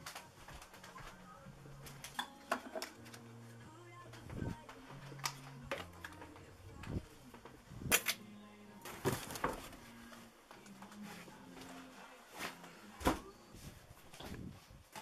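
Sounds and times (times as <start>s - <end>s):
faint background music with bass: 0.0s - 15.0s.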